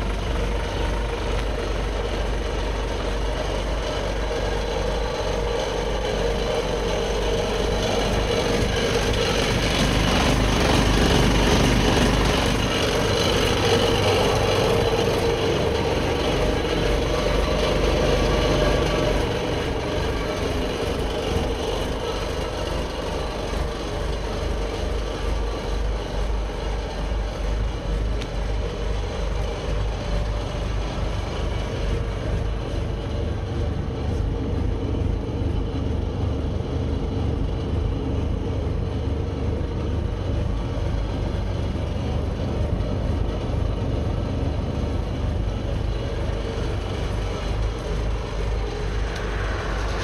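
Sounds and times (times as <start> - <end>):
diesel engine idling: 0.0 - 50.0.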